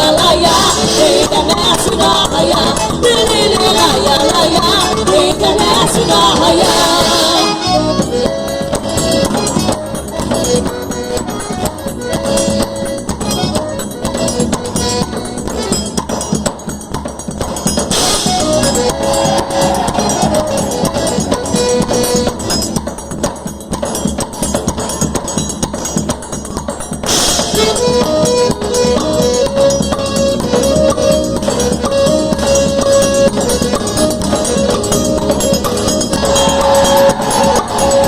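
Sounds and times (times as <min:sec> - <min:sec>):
instrumental folk dance music: 0:00.0 - 0:38.0.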